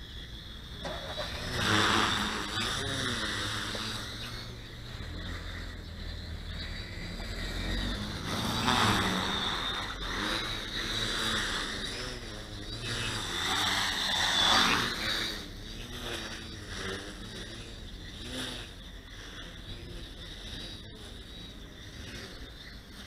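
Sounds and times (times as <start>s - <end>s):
tricopter motors and propellers buzzing: 0.0s - 23.0s.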